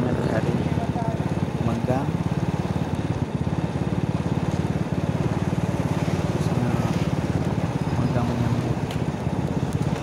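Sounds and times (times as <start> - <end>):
small motorcycle engine running: 0.0 - 10.0.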